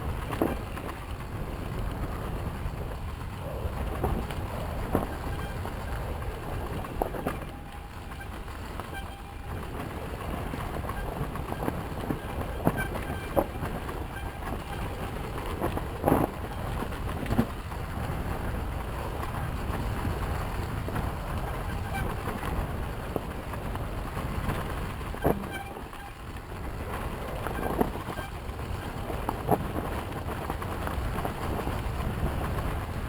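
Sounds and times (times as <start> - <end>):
wind noise on microphone: 0.0 - 33.0
dirt bike engine rumble: 1.6 - 32.9.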